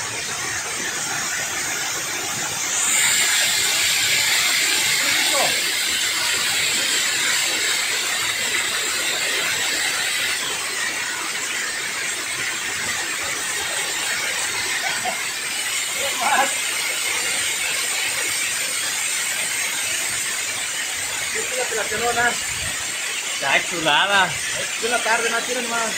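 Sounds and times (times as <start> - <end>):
churning water: 0.0 - 25.9
water rushing over a weir: 0.0 - 25.9.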